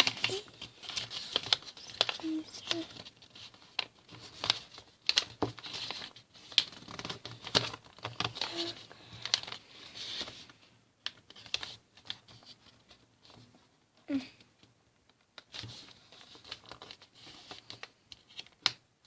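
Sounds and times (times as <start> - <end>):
paper rustling as folded: 0.0 - 13.7, 15.4 - 18.8.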